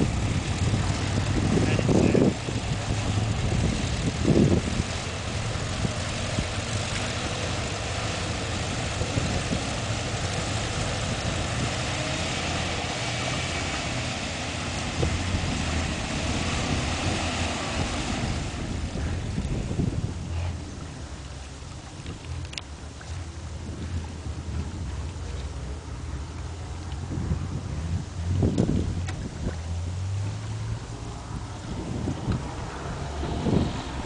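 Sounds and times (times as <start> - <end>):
engine running steadily: 0.0 - 34.0
water washing along hull: 0.0 - 34.0.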